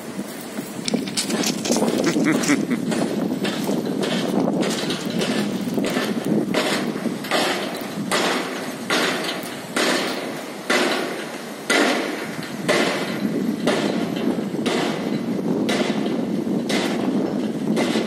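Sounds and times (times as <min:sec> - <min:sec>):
steady mechanical noise: 0:00.0 - 0:18.0
pile driver metallic impacts: 0:01.0 - 0:18.0.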